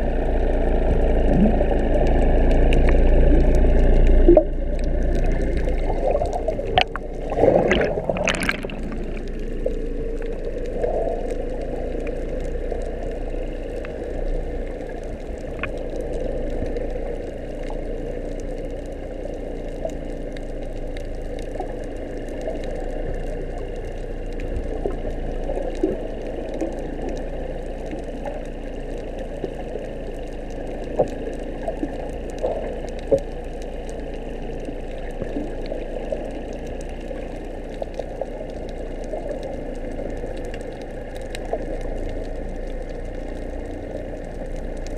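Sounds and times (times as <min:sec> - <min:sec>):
muffled underwater drone: 0:00.0 - 0:44.9.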